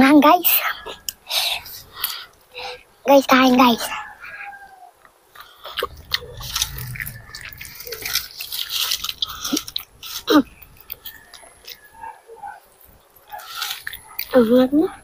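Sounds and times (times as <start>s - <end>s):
children chewing and lip-smacking: 0.4s - 15.0s.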